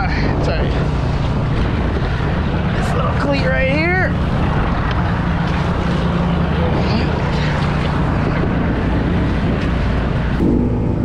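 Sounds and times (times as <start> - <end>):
water splashing against hulls: 0.0 - 10.8
outboard motor running: 0.0 - 11.0
wind on microphone: 0.0 - 11.0.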